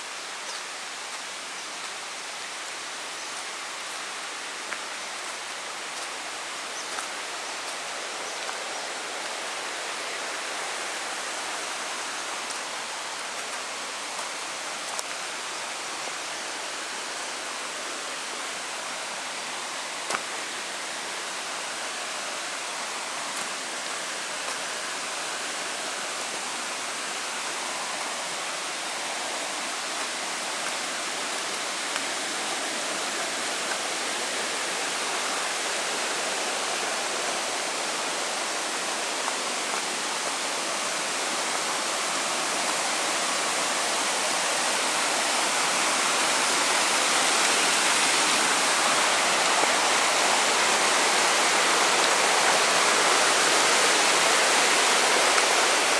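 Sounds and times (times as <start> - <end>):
stream water flowing over rocks: 0.0 - 55.9.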